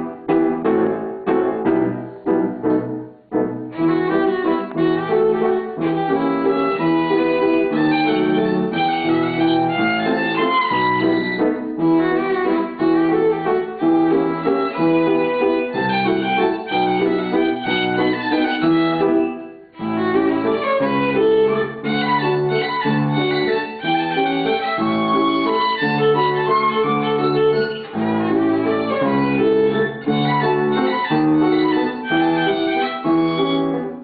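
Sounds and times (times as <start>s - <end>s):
piano accompaniment: 0.0s - 34.0s
violin melody: 0.0s - 34.0s.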